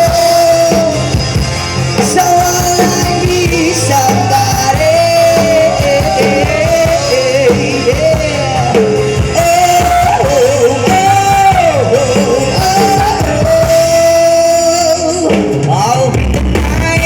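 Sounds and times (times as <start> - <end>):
live rock band playing: 0.0 - 17.0
person singing long notes: 0.0 - 17.0.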